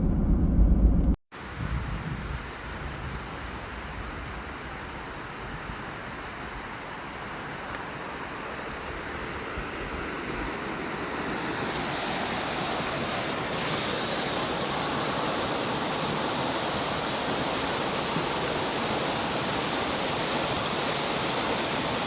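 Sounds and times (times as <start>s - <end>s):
stream water rushing: 1.4s - 22.0s.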